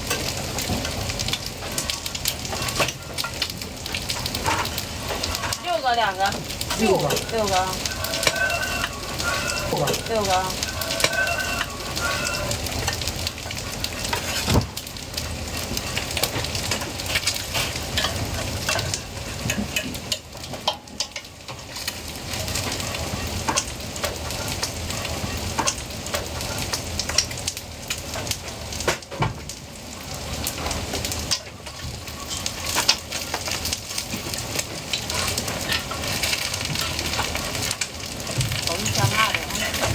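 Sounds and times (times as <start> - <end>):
food sizzling: 0.0 - 39.9.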